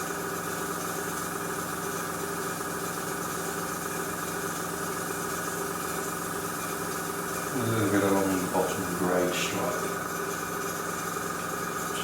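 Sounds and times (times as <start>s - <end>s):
compressor motor humming: 0.0s - 12.0s.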